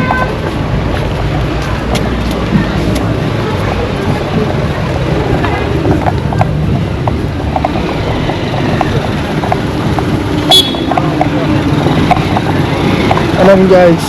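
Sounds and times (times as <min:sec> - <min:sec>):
wind buffeting microphone: 0:00.0 - 0:13.7
outdoor street noise: 0:00.0 - 0:14.0.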